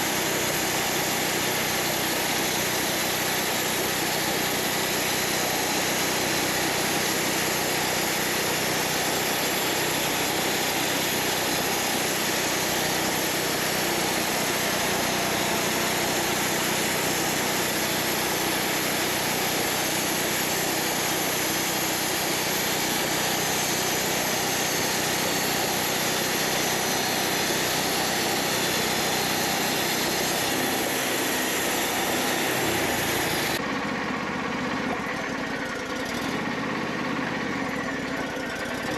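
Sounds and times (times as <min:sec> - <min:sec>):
portable sawmill running: 0:00.0 - 0:38.9.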